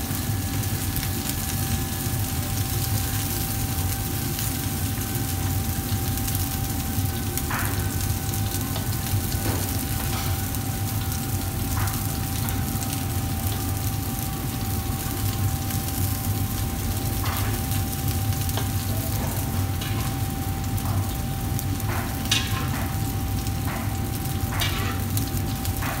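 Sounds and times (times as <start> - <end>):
sauce sizzling: 0.0 - 25.8.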